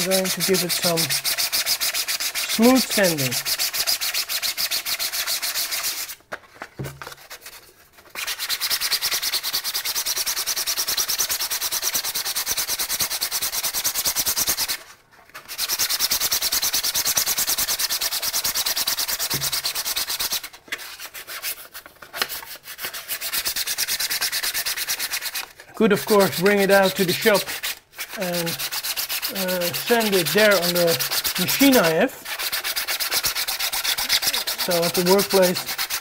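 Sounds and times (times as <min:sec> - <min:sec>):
sandpaper scratching: 0:00.0 - 0:06.2, 0:07.0 - 0:36.0.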